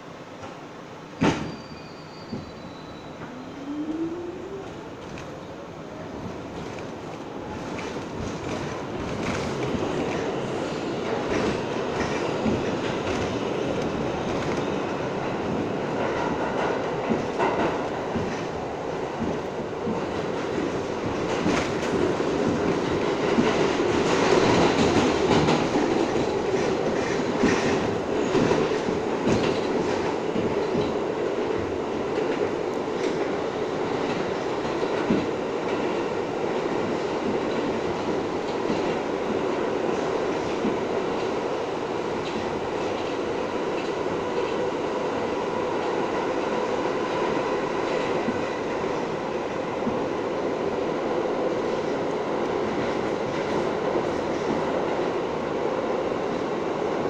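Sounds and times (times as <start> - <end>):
subway car rumble: 0.0 - 57.0.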